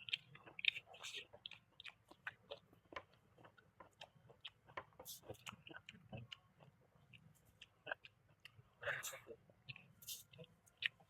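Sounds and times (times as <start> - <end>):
person chewing with wet smacks: 0.0 - 11.0.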